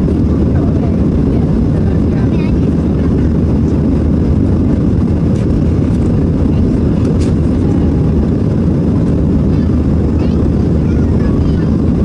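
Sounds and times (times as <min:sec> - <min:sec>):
aircraft cabin engine roar: 0:00.0 - 0:12.0.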